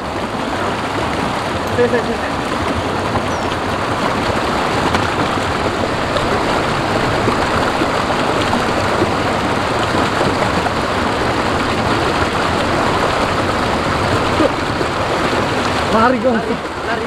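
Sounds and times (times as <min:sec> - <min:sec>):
stream water rushing: 0:00.0 - 0:17.0
water splashing: 0:00.0 - 0:17.0.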